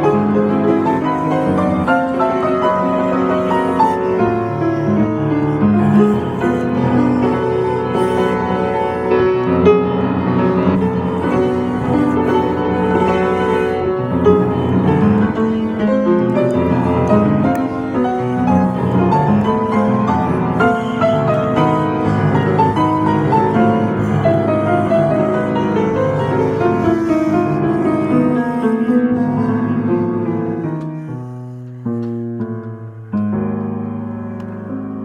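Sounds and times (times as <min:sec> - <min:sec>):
acoustic piano piece: 0:00.0 - 0:35.0.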